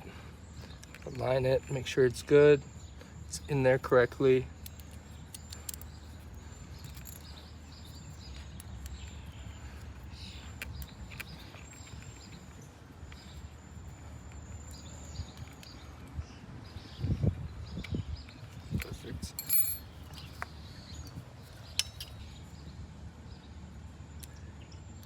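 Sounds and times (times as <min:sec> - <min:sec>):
low outdoor background noise: 0:00.0 - 0:25.0.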